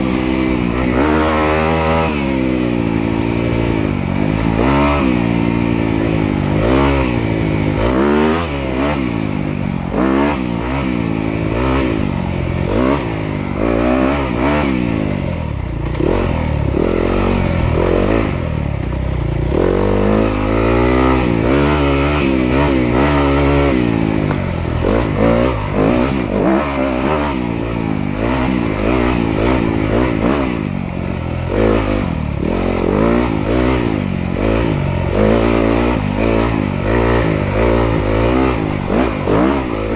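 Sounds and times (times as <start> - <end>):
bike rattles and knocks: 0.0 - 39.9
dirt bike engine revving: 0.0 - 39.9.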